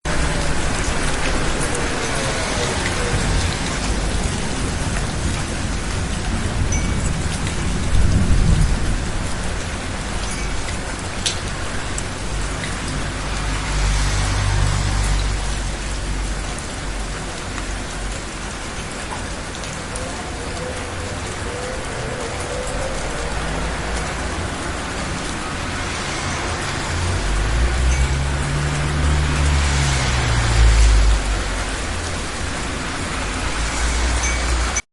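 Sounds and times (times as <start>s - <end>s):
cars passing on wet road: 0.0s - 34.8s
rain on street: 0.0s - 34.9s.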